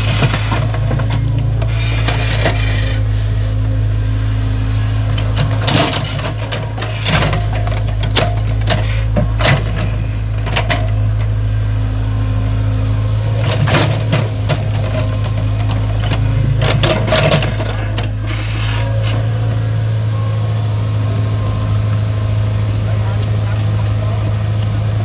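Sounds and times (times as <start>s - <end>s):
excavator diesel engine drone: 0.0s - 25.0s.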